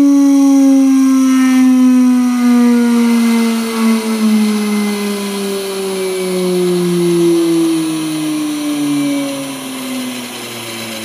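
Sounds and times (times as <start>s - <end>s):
spindle motor whine falling: 0.0s - 11.0s.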